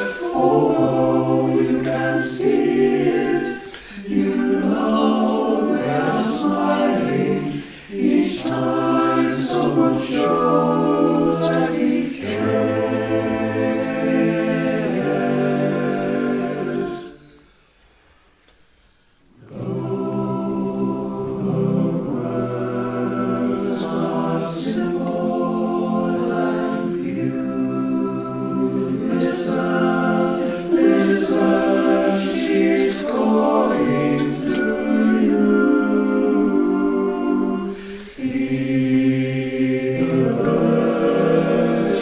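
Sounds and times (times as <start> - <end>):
male chorus singing a cappella: 0.0 - 17.5, 19.4 - 42.0.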